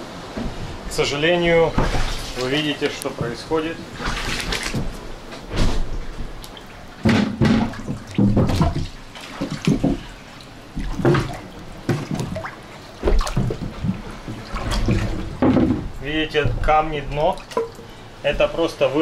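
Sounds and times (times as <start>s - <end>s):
water sloshing and splashing: 0.0s - 19.0s
waves knocking on hull: 0.0s - 19.0s.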